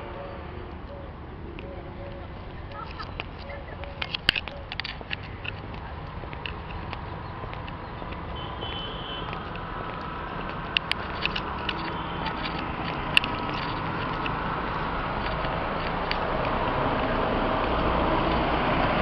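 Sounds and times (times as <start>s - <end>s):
car engine and tyre noise: 0.0s - 19.0s
scooter engine: 0.0s - 19.0s
sharp clicks: 0.8s - 16.6s.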